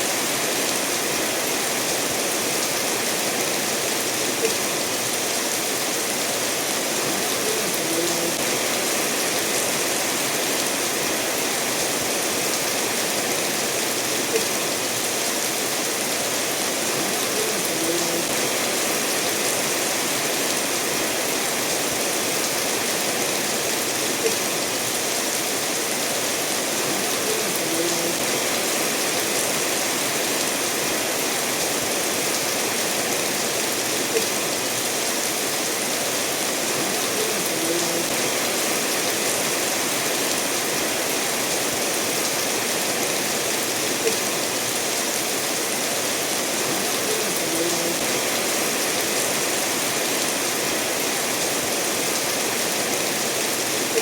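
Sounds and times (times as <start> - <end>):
steady rain falling: 0.0 - 54.0
stream running over stones: 0.0 - 54.0.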